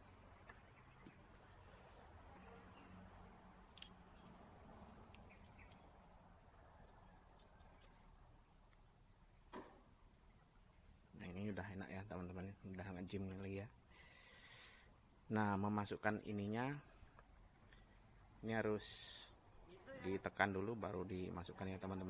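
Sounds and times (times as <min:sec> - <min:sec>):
faint high-pitched whine: 0:00.0 - 0:22.0.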